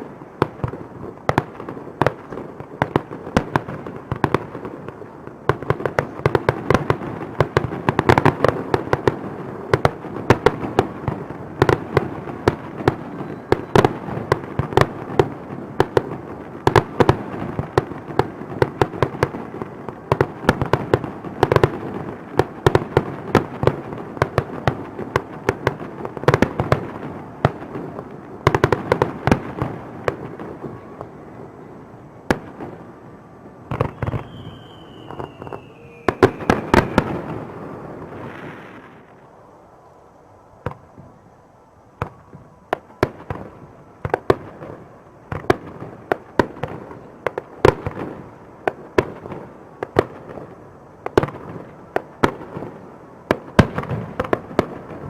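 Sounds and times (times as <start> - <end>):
fireworks bangs: 0.0 - 39.3, 40.6 - 41.3, 41.9 - 55.0
rumble of fireworks bursts: 0.0 - 55.0.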